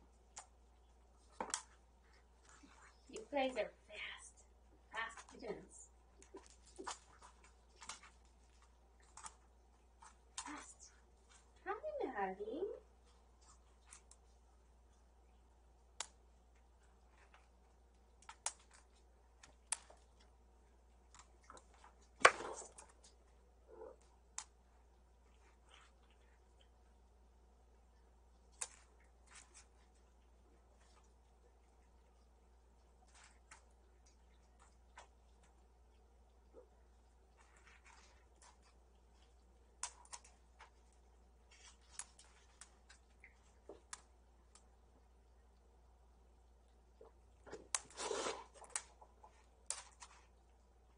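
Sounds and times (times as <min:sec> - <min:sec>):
kittens playing clicks and taps: 0:00.0 - 0:11.7, 0:12.9 - 0:27.2, 0:28.0 - 0:44.8, 0:46.7 - 0:50.8.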